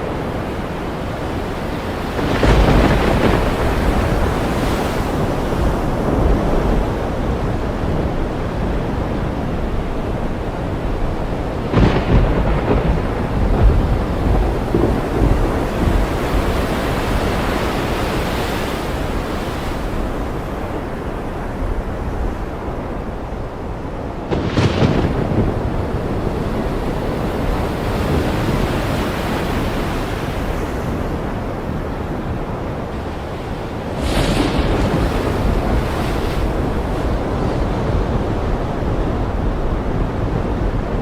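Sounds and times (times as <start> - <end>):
ocean surf washing: 0.0 - 41.0
wave crashing: 0.0 - 41.0.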